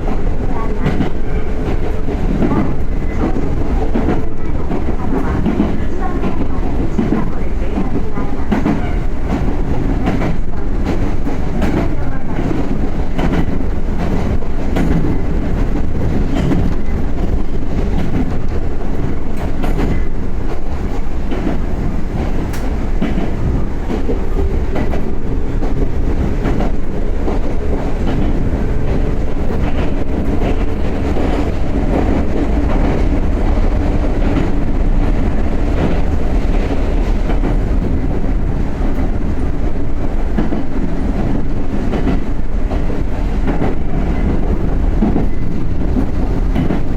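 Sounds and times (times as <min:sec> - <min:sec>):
train interior rumble: 0:00.0 - 0:46.9
wheels clicking over rail joints: 0:00.0 - 0:46.9.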